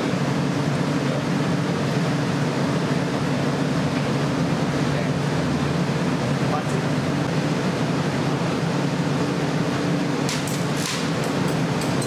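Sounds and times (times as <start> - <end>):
furnace burners roaring: 0.0 - 12.0.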